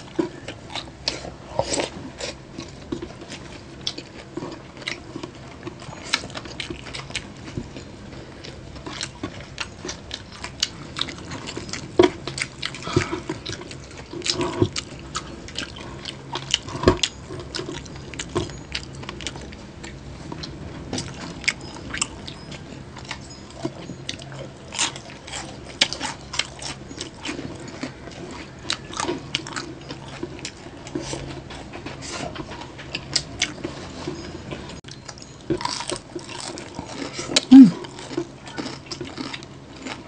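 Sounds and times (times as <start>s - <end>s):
chewing and crunching crisp skin: 0.0s - 40.0s.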